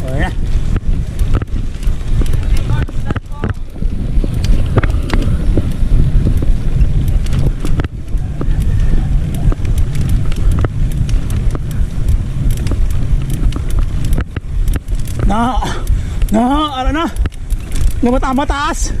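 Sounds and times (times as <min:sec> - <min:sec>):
bike clicks and rattles: 0:00.0 - 0:19.0
wind rumbling on microphone: 0:00.0 - 0:19.0.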